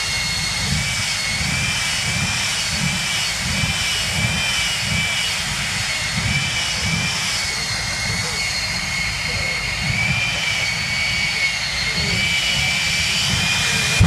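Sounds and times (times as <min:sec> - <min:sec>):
jet engine whining: 0:00.0 - 0:14.0.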